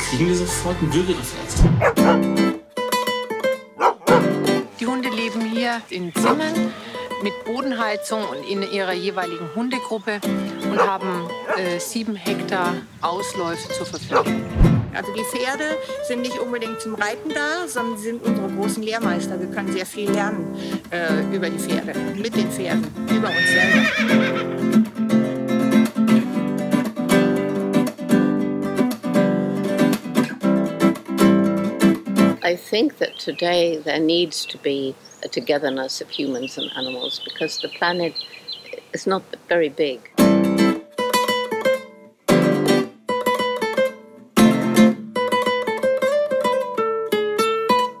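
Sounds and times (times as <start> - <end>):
acoustic guitar strumming: 0.0 - 23.6, 24.2 - 32.6, 40.2 - 48.0.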